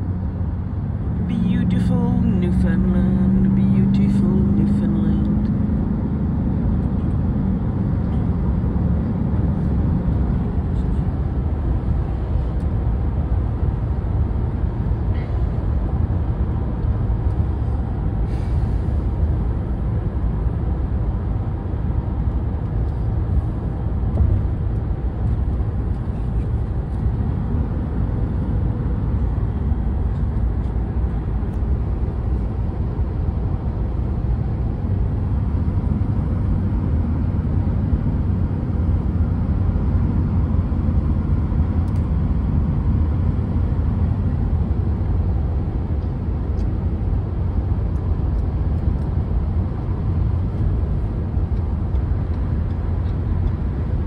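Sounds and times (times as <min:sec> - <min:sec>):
car cabin road and engine drone: 0:00.0 - 0:54.0.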